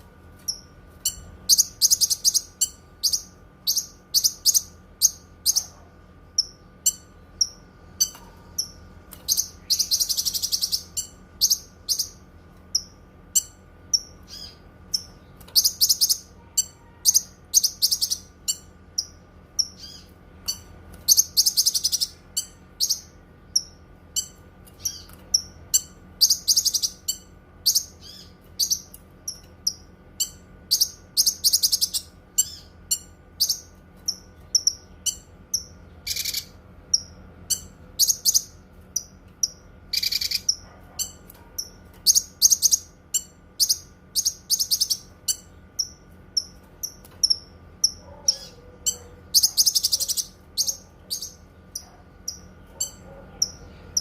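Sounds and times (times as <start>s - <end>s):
faint steady hum: 0.0s - 54.0s
songbird chirping and trilling: 0.4s - 54.0s.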